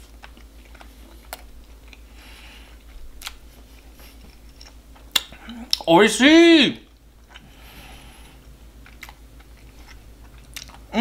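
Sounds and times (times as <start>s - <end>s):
person chewing: 0.0s - 5.9s, 6.9s - 11.0s
steady low hum: 0.0s - 11.0s.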